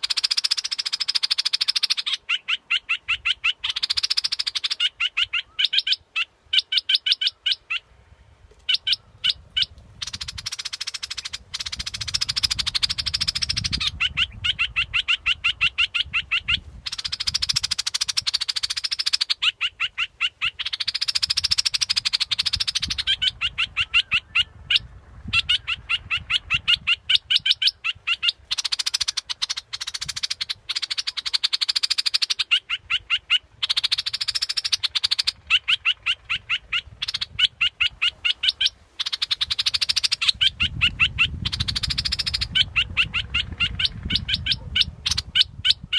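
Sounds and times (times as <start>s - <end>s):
bird chattering phrases: 0.0s - 7.9s, 8.6s - 45.9s
bulbul calling: 0.0s - 7.9s, 8.6s - 45.9s.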